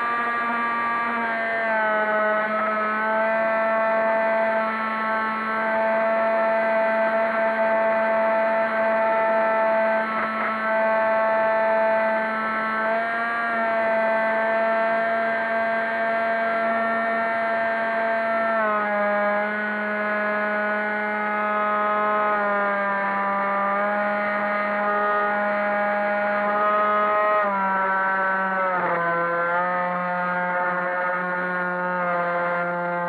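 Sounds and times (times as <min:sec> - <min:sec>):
electric motor and propeller whine: 0:00.0 - 0:33.0.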